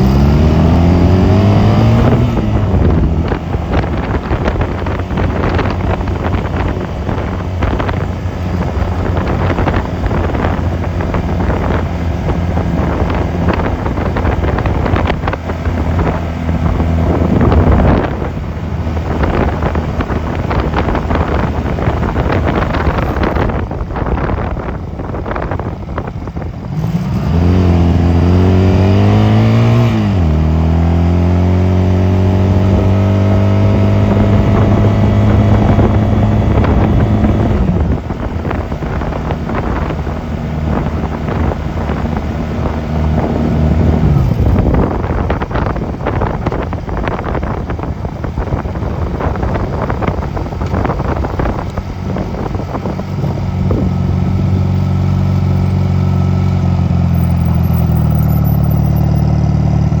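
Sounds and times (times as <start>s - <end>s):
wind buffeting microphone: 0.0s - 57.9s
motorcycle engine running: 0.0s - 60.0s.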